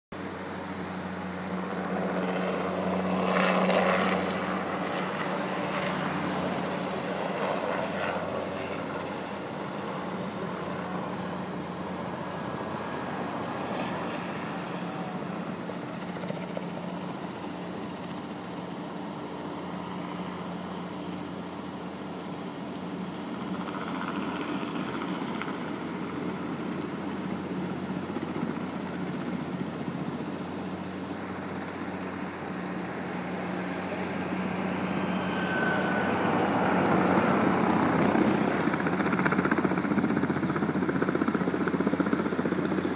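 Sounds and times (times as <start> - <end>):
helicopter rotor and engine: 0.1 - 42.9.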